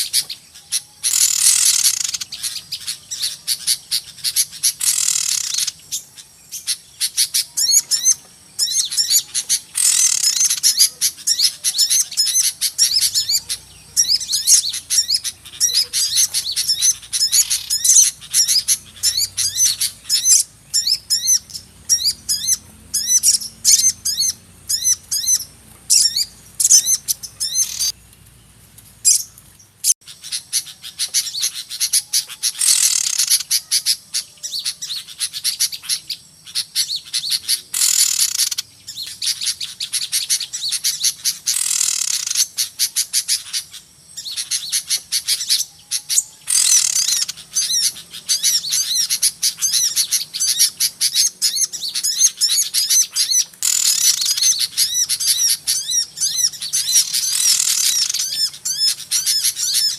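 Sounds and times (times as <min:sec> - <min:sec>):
flock of small birds chirping: 0:00.0 - 0:59.9.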